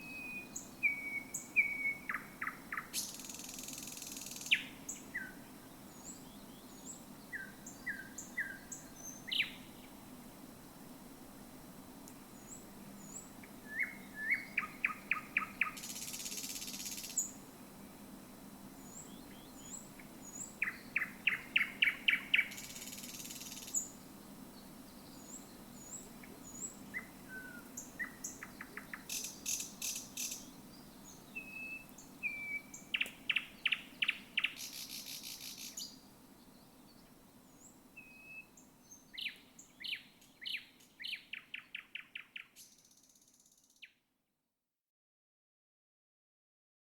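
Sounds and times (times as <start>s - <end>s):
nightingale singing: 0.0s - 9.9s, 12.4s - 17.4s, 18.8s - 24.0s, 24.6s - 44.0s.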